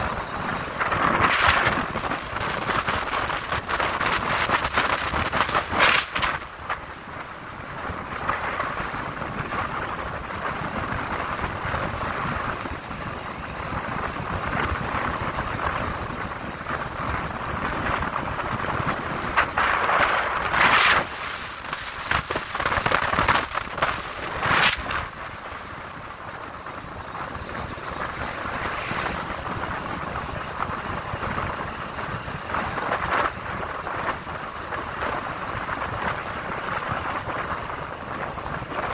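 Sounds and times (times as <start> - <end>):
road and running noise: 0.0 - 38.9
wind buffeting microphone: 0.0 - 38.9.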